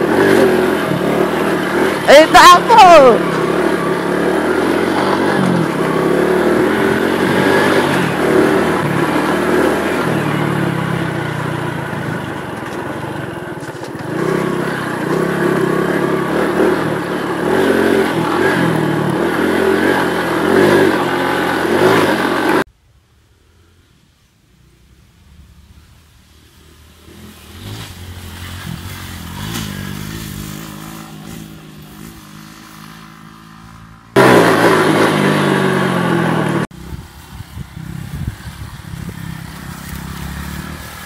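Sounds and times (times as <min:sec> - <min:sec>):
motorcycle engine revving: 0:00.0 - 0:22.7, 0:26.4 - 0:41.0.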